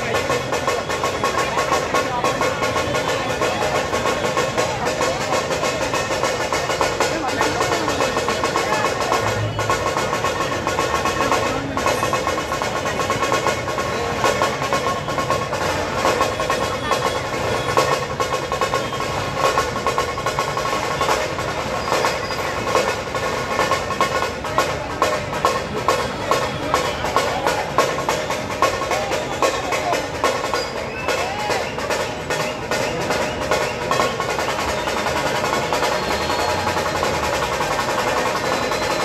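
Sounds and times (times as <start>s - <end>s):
fast drumming ensemble: 0.0s - 39.0s.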